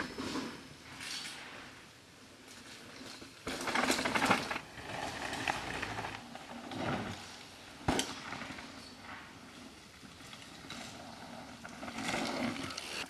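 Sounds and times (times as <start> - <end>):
bike tyres rolling over dirt: 0.0 - 13.0
bike clattering and rattling: 2.4 - 13.0.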